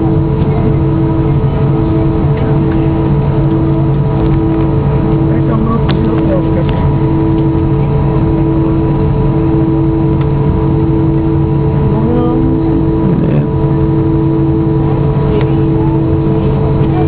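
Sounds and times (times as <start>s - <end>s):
airplane cabin drone: 0.0s - 17.0s.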